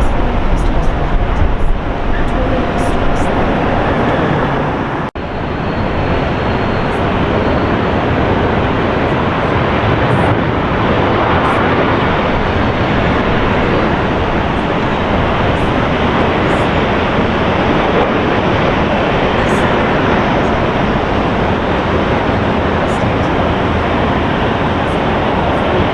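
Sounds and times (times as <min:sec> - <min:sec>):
jet airliner engines running: 0:00.0 - 0:25.9.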